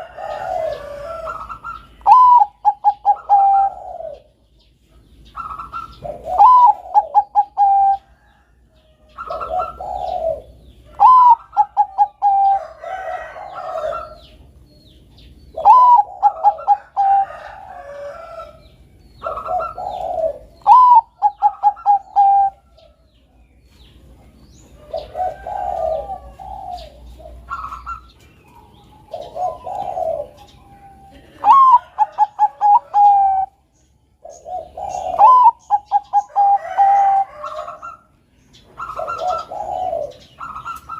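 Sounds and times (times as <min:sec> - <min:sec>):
dove cooing: 0:00.0 - 0:23.1, 0:24.1 - 0:40.9.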